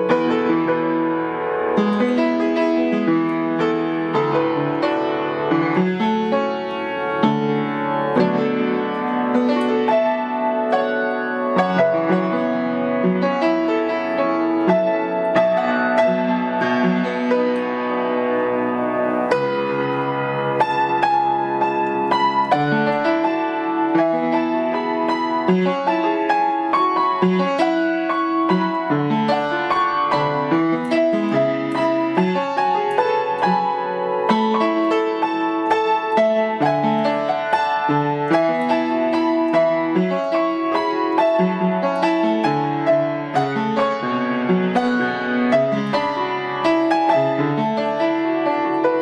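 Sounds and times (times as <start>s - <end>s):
solo piano melody: 0.0s - 49.0s.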